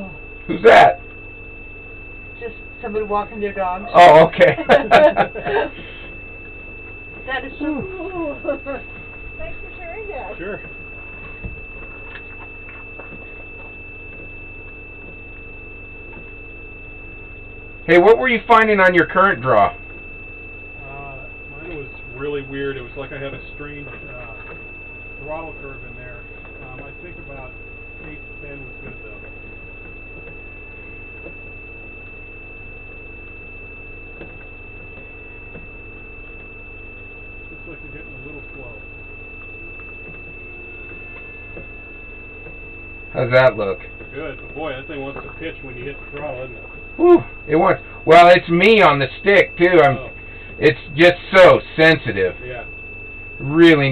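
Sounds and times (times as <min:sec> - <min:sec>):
high-pitched electronic whine: 0:00.0 - 0:53.9
low hum: 0:00.0 - 0:53.9.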